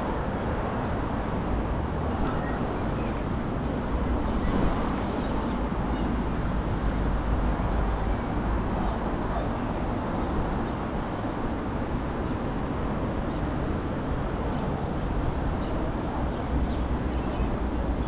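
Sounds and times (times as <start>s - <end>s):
street ambience rumble and hiss: 0.0s - 18.0s.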